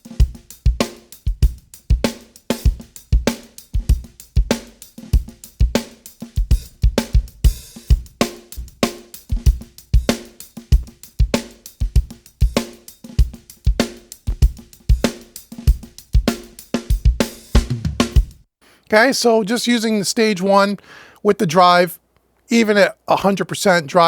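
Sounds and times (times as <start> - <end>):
drum loop with saturation: 0.0 - 20.7.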